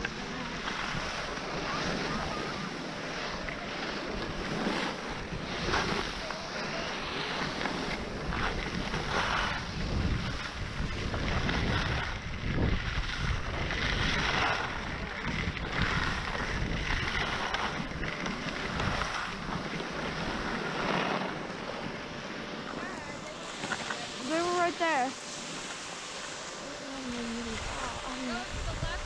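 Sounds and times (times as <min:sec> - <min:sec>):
wind buffeting microphone: 0:00.0 - 0:21.3, 0:26.8 - 0:29.0
skis scraping over snow: 0:00.0 - 0:29.0.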